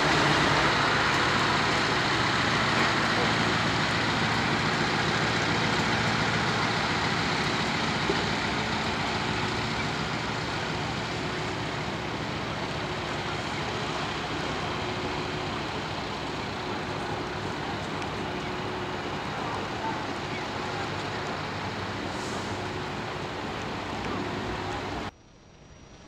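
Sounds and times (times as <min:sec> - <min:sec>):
diesel truck engines droning: 0:00.0 - 0:25.1.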